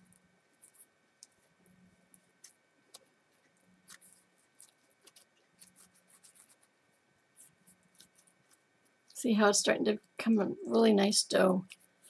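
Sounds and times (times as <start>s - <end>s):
hands kneading sticky dough: 0.0s - 9.2s, 11.4s - 12.0s.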